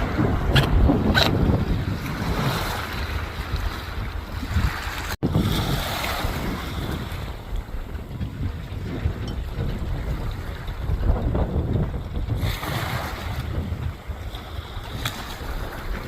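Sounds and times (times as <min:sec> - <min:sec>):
waves washing in: 0:00.0 - 0:11.4, 0:12.2 - 0:16.0
wind buffeting microphone: 0:00.0 - 0:16.0.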